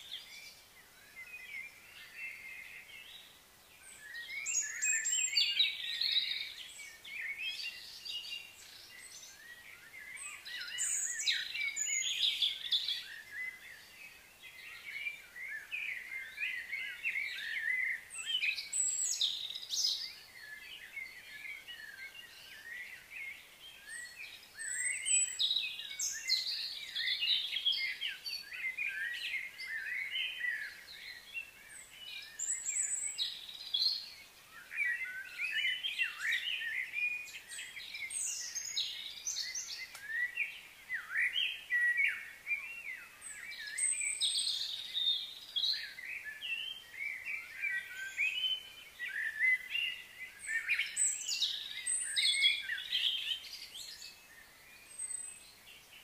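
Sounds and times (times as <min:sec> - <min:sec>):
birds chirping and singing: 0:00.0 - 0:56.0.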